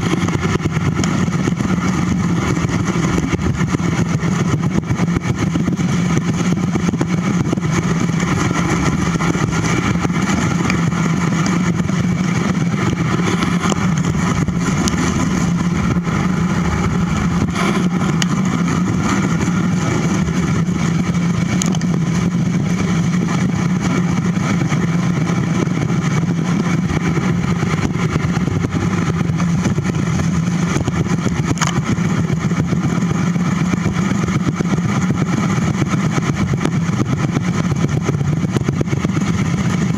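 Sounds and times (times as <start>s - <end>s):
bicycle tires rolling on pavement: 0.0s - 39.9s
constant low hum: 0.0s - 39.9s
wind rush: 0.0s - 39.9s.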